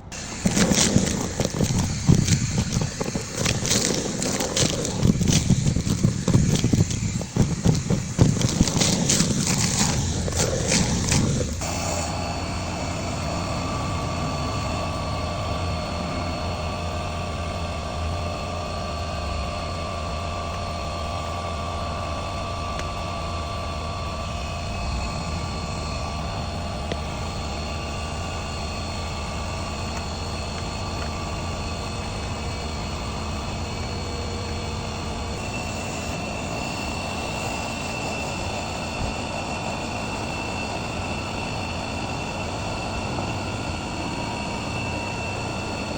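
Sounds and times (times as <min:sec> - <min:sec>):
motor droning and whining: 0:00.0 - 0:45.9.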